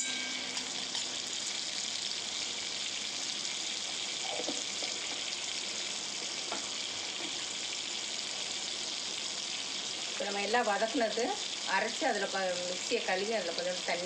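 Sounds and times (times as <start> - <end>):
butter sizzling in a pan: 0.0 - 14.0.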